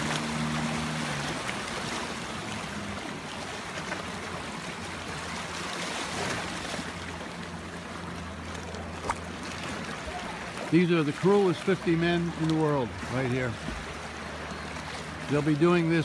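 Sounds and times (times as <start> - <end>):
boat engine idling: 0.0 - 16.0
water wash: 0.0 - 16.0.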